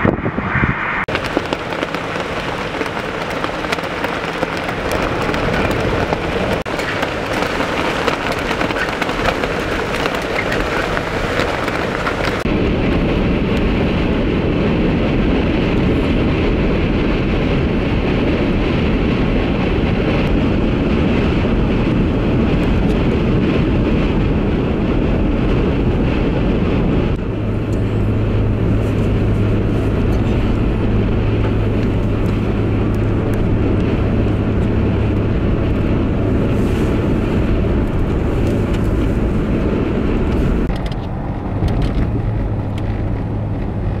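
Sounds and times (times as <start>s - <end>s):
engine and tyre drone: 0.0s - 44.0s
road noise: 0.0s - 44.0s
wind rushing: 0.0s - 44.0s.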